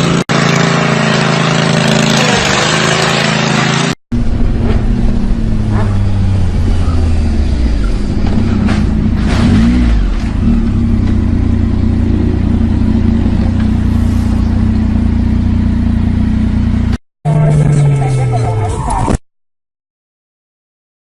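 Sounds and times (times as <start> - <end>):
loud vehicle engine running: 0.0 - 18.7.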